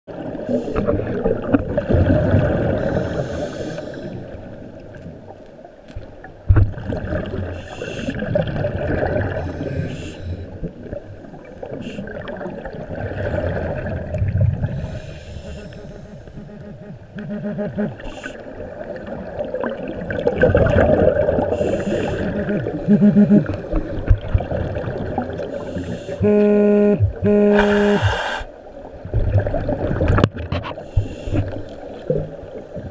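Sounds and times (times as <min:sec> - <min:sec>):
exhaled bubbles gurgling underwater: 0:00.1 - 0:05.3, 0:06.1 - 0:26.2, 0:27.0 - 0:32.9.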